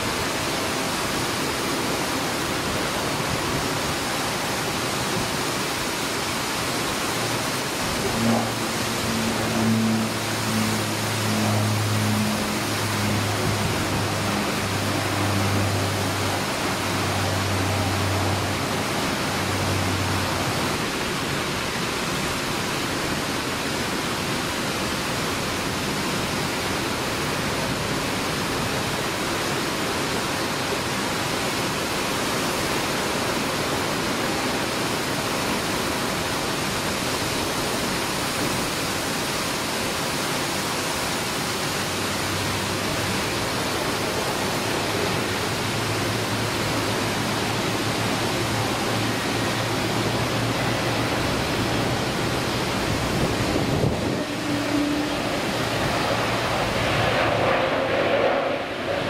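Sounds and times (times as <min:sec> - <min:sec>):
propeller plane drone: 0:00.0 - 0:59.0
rain hiss: 0:00.0 - 0:59.0.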